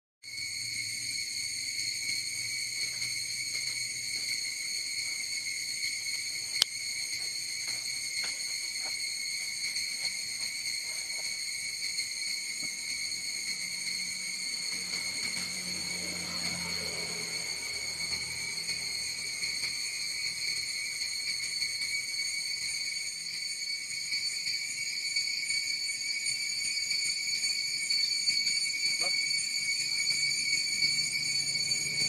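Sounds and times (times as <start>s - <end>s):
insects droning: 0.2s - 32.0s.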